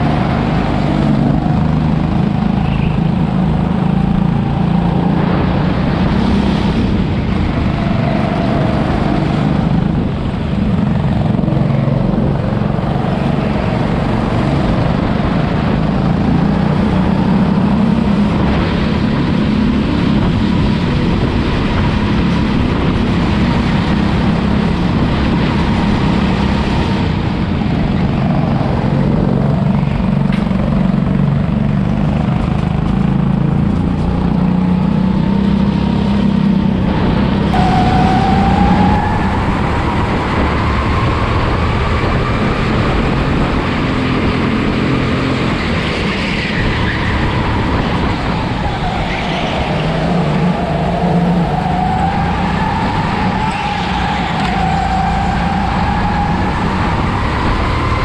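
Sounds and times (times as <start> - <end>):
go-kart engine at racing speed: 0.0 - 58.0.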